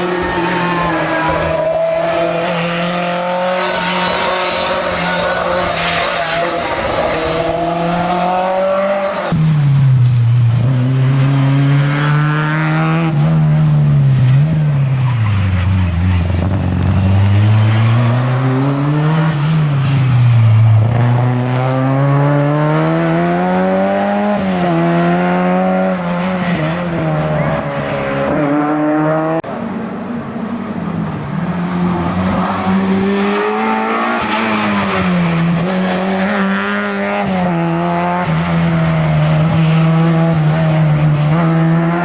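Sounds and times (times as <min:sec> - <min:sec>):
rally car engine revving: 0:00.0 - 0:42.0.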